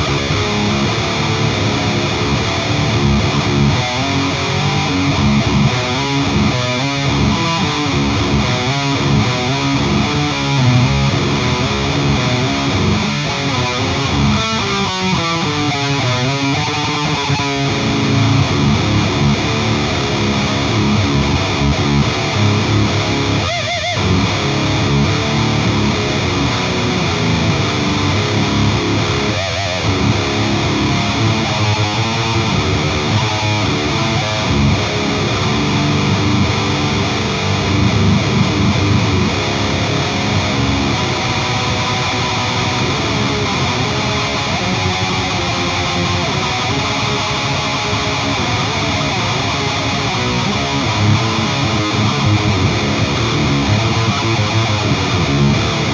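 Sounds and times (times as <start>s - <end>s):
heavily distorted electric guitar riffing: 0.0s - 55.9s.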